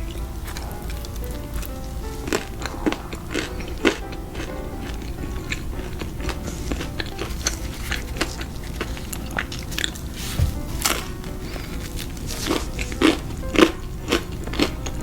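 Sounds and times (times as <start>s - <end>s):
chewing with crisp crunches: 0.0s - 15.0s
quiet background music: 0.0s - 15.0s.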